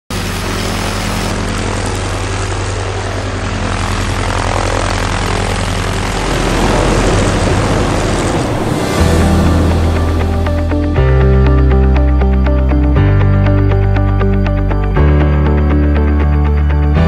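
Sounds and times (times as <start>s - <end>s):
propeller aircraft engine drone: 0.1s - 17.0s.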